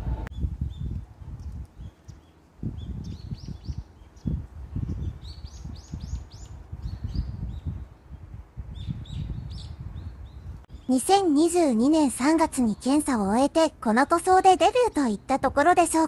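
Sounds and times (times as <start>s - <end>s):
wind rumbling on microphone: 0.0s - 13.2s
small birds chirping: 0.3s - 16.0s.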